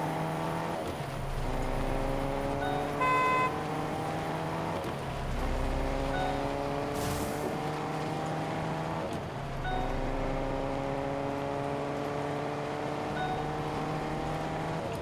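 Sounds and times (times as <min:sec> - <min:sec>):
video game car engine accelerating: 0:00.0 - 0:15.0.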